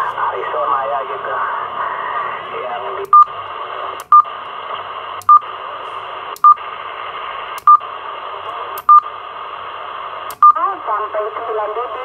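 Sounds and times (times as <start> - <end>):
radio receiver static hiss: 0.0 - 12.0.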